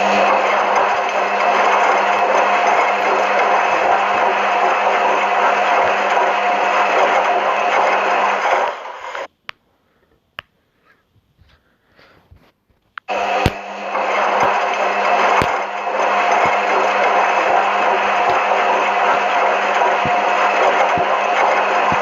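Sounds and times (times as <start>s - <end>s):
washing machine churning: 0.0s - 9.3s, 13.1s - 22.0s.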